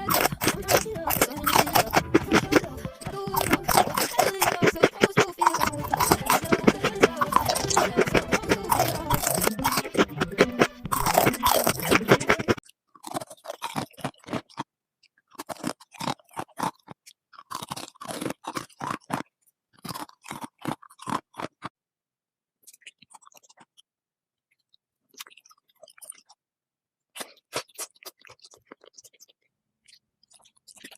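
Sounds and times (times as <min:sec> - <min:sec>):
chewing crisp food: 0:00.0 - 0:21.7, 0:22.6 - 0:26.5, 0:27.1 - 0:30.9.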